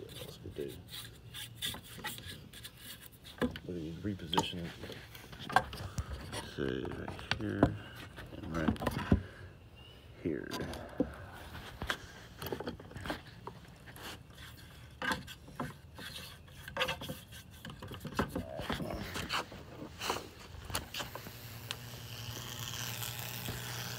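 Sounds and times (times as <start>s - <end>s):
handling scrapes and knocks: 0.0s - 9.4s, 10.5s - 21.2s.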